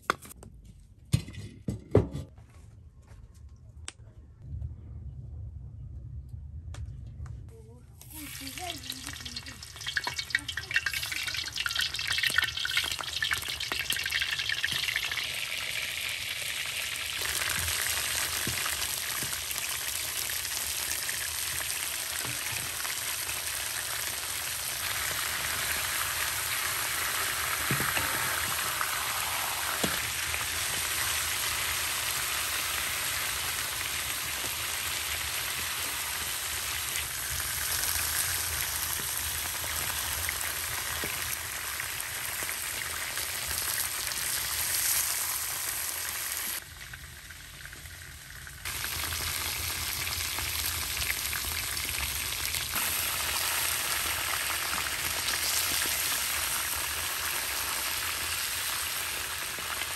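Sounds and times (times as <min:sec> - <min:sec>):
food frying in oil: 0:08.0 - 0:59.9.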